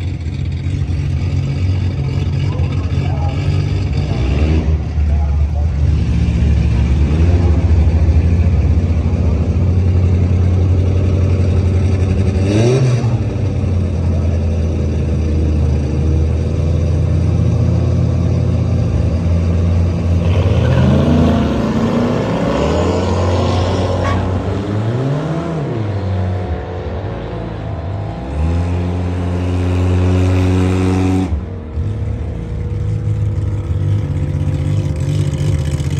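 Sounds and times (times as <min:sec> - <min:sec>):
car engine idling and revving: 0:00.0 - 0:35.9
cars launching and accelerating: 0:00.0 - 0:35.9.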